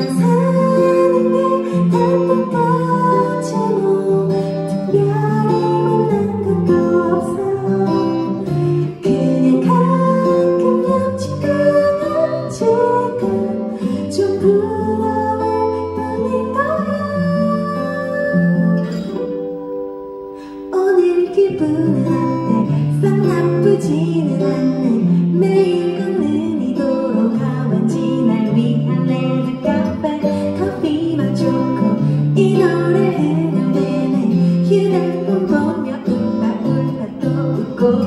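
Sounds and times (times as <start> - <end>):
guitar: 0.0 - 38.0
woman singing: 0.0 - 38.0.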